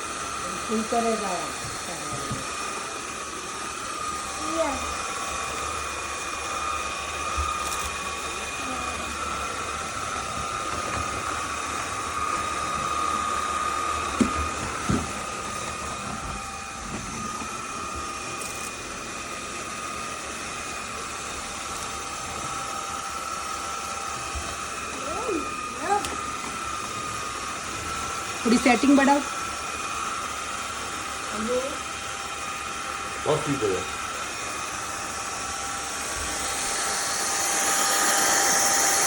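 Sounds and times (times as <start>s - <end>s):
stick vacuum running: 0.0s - 39.0s.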